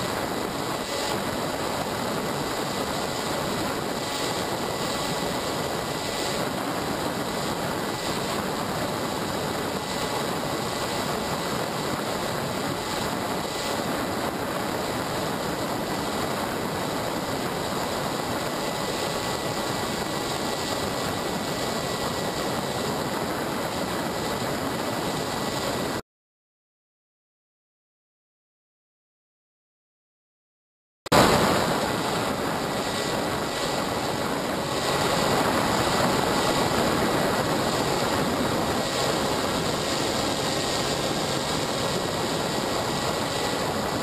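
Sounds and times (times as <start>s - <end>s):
electric motors and propellers whining: 0.0s - 26.0s, 31.2s - 44.0s.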